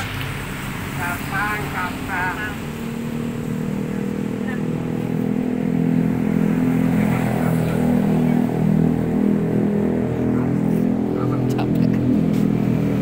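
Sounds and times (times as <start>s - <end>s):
steady motor hum: 0.3s - 13.0s.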